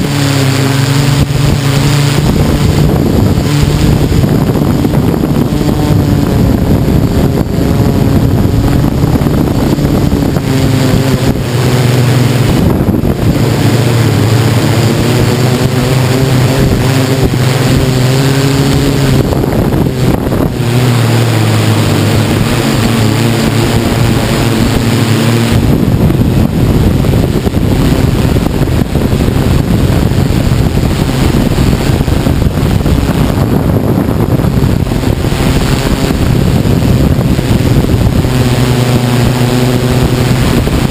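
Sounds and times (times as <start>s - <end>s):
drone motors and propellers whirring: 0.0s - 40.9s
wind rushing over microphone: 0.0s - 40.9s.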